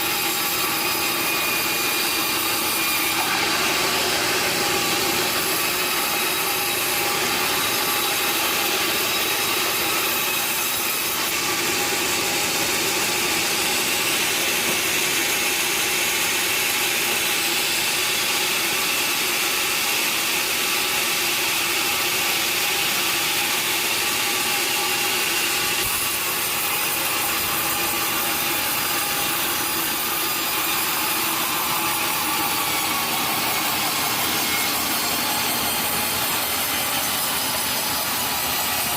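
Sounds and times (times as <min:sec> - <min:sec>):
sawmill saw cutting timber: 0:00.0 - 0:38.9.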